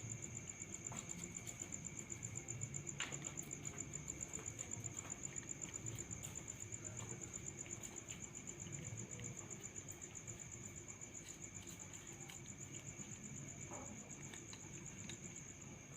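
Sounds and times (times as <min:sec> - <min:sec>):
high-pitched insect trill: 0:00.0 - 0:15.9.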